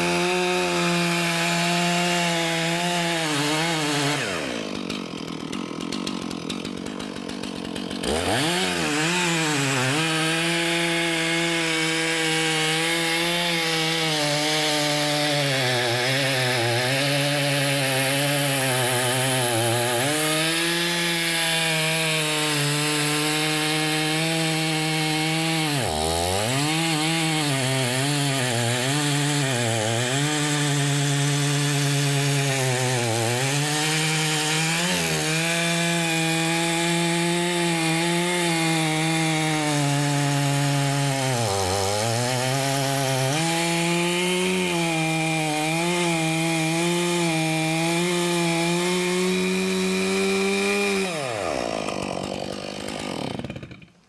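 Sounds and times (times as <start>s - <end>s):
chainsaw cutting timber: 0.0s - 54.0s.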